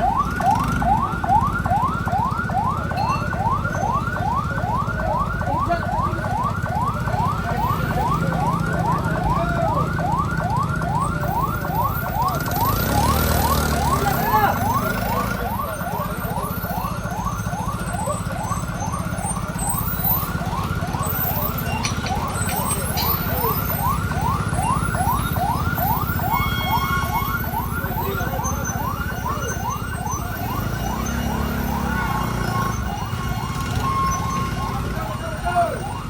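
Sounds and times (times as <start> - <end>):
siren yelping: 0.0 - 36.0.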